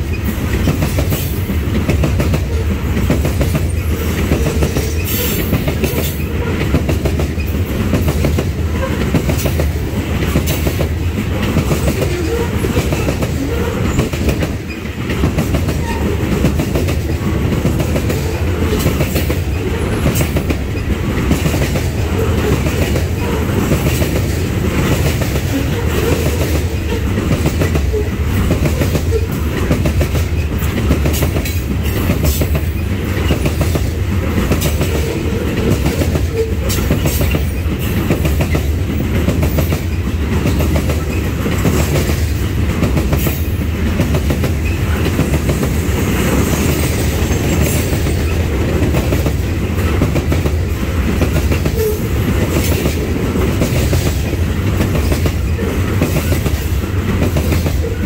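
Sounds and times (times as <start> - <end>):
freight train wheels rumbling: 0.0 - 58.0
sharp clicks from train wheels: 0.0 - 58.0.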